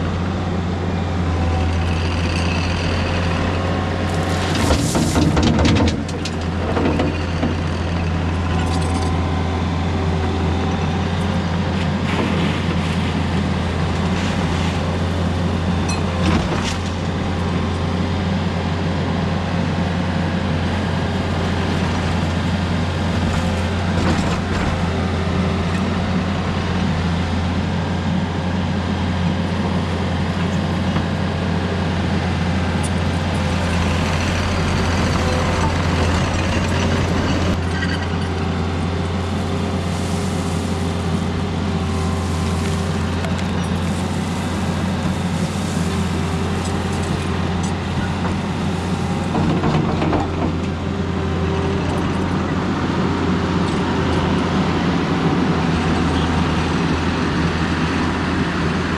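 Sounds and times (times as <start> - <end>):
diesel engine droning: 0.0 - 58.9.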